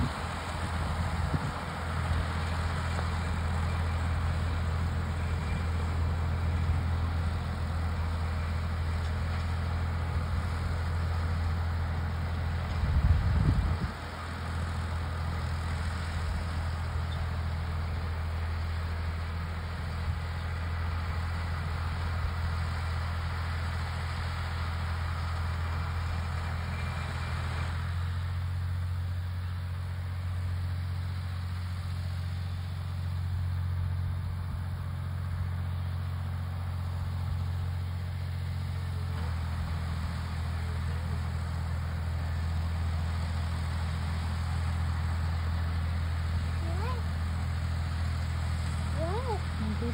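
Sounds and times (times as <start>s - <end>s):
tractor engine droning: 0.0s - 49.9s.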